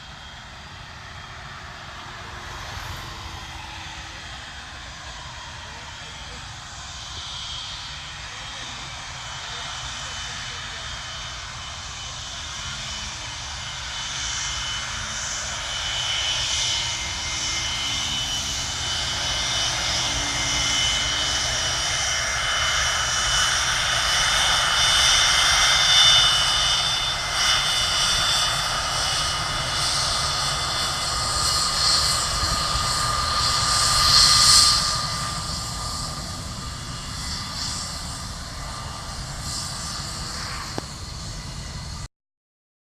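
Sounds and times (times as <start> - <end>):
jet engines with high whine: 0.0 - 42.1.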